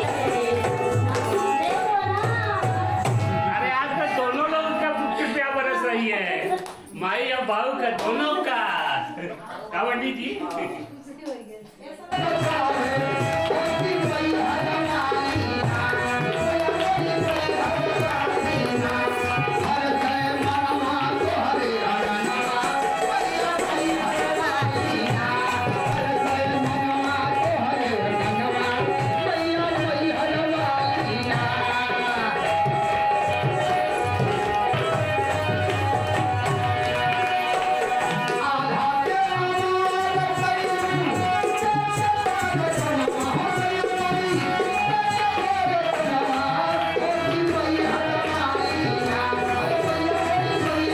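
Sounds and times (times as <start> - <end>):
tabla drumming: 0.0 - 9.1, 12.1 - 50.9.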